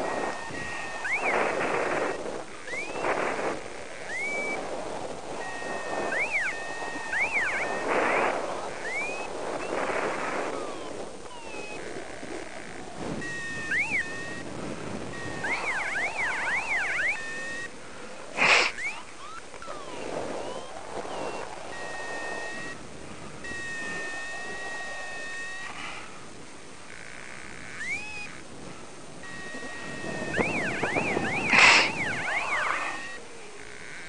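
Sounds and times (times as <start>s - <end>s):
variometer high beeps and warbling: 0.0s - 17.8s, 18.4s - 25.9s, 26.8s - 34.0s
wind rushing on microphone: 0.0s - 34.0s.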